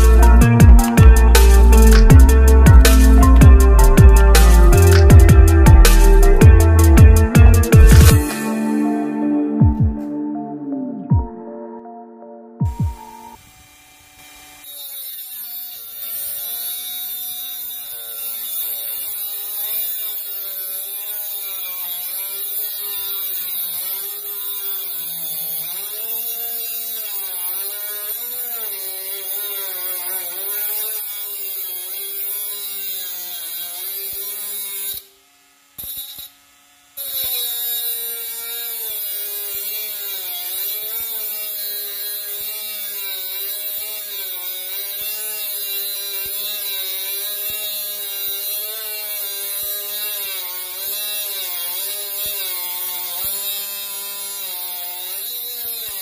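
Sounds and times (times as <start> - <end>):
angle grinder whining: 0.0 - 11.3, 12.6 - 56.0.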